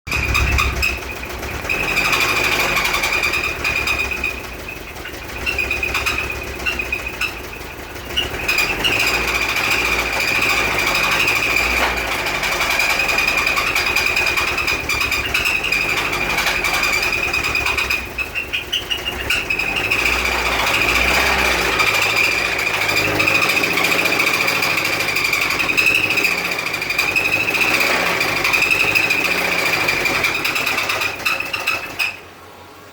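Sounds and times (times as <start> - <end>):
car engine running: 0.0 - 32.8
high-pitched squeal: 0.1 - 32.2
rapid engine knock: 0.1 - 32.2.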